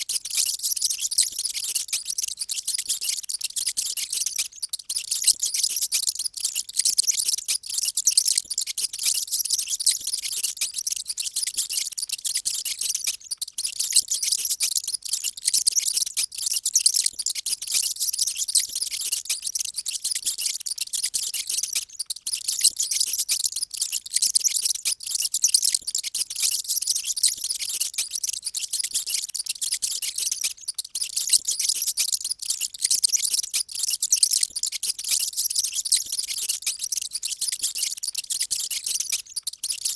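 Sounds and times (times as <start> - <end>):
mice squeaking: 0.0 - 39.9.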